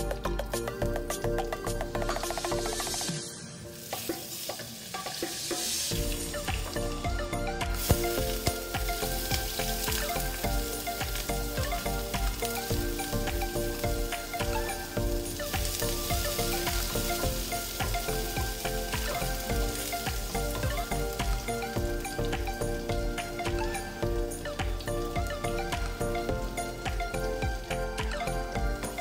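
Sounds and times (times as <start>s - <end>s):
background music: 0.0s - 29.0s
onion sizzling in hot oil: 0.0s - 29.0s.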